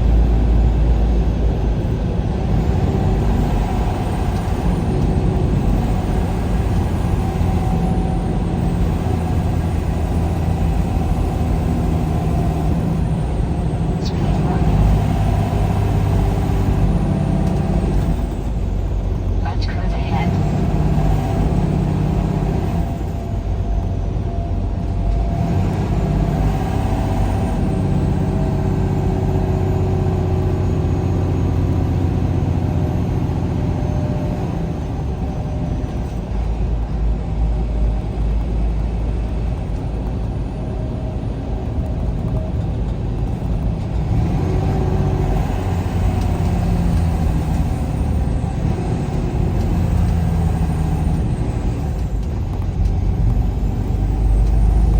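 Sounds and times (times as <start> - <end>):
vehicle engine hum: 0.0 - 54.9.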